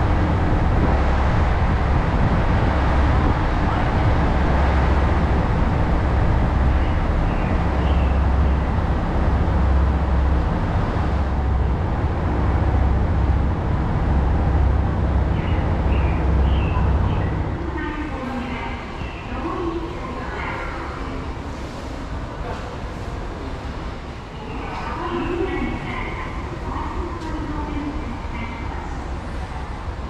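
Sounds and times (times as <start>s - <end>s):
diesel railcar idling: 0.0s - 30.0s.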